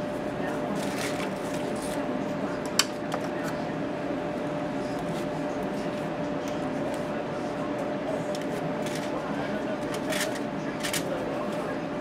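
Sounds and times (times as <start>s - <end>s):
room hum with faint tone: 0.0s - 12.0s.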